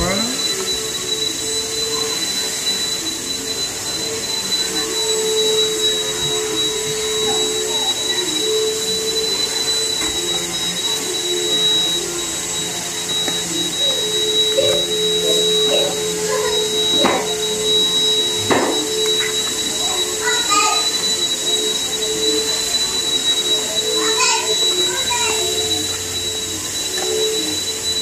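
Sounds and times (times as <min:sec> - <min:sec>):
constant high whine: 0:00.0 - 0:28.0
motor whirring: 0:00.0 - 0:28.0.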